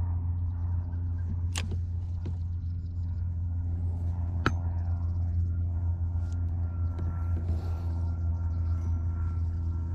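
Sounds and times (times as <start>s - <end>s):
boat motor humming: 0.0s - 9.9s.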